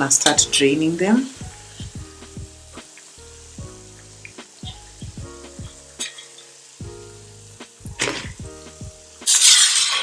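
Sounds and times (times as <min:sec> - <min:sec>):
food sizzling in hot oil: 0:00.0 - 0:10.0
soft background music: 0:00.0 - 0:10.0.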